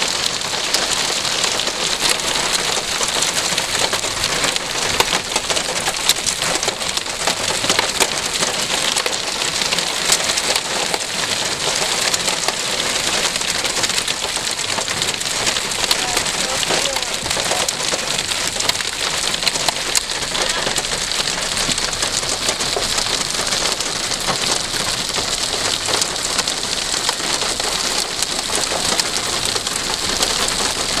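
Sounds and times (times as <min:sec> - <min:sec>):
rain pattering: 0:00.0 - 0:31.0.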